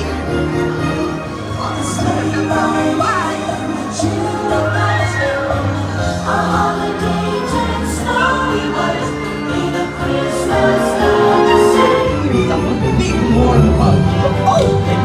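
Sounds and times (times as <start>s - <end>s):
choir singing with orchestra: 0.0s - 15.0s.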